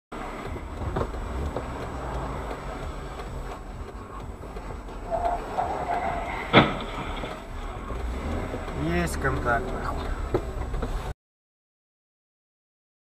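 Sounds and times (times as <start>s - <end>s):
vehicle rumble on road: 0.1s - 11.2s.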